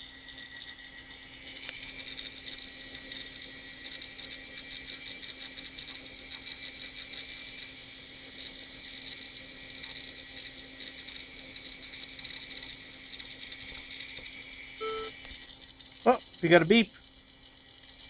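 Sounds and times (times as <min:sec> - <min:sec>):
hard drive hum: 0:00.0 - 0:18.0.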